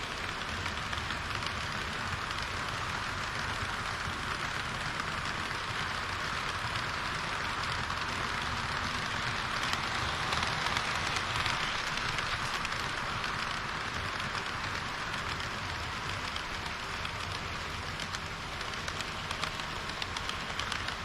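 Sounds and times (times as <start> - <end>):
model train wheels rolling on rails: 0.0 - 21.0
faint clicks: 3.3 - 21.0.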